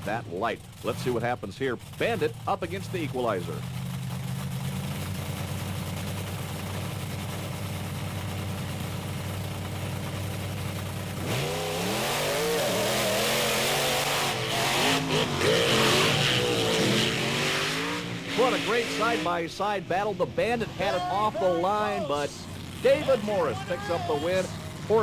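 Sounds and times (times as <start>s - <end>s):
monster truck engines revving: 0.0s - 25.0s.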